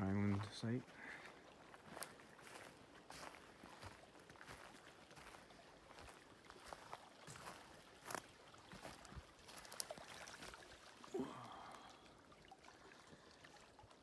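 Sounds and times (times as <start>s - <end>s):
small waves lapping on rocks: 1.3s - 13.8s.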